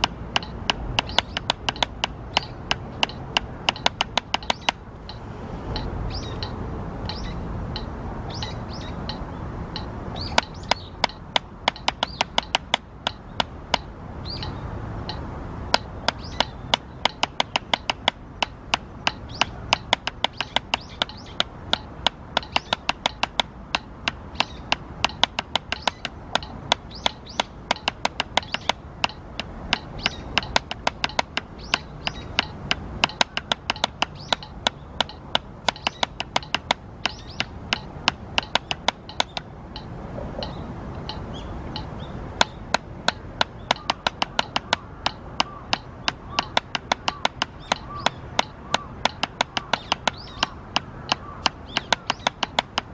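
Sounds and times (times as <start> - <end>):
birds chirping: 0.0 - 52.9
drumsticks striking practice pad: 0.0 - 52.9.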